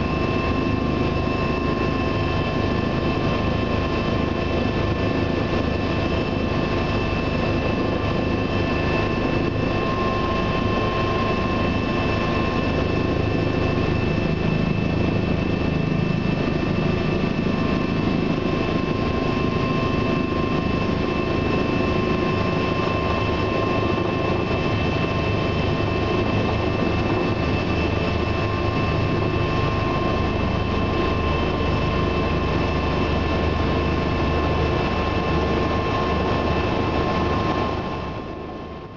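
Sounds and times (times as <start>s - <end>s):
helicopter cabin rumble: 0.0s - 38.9s.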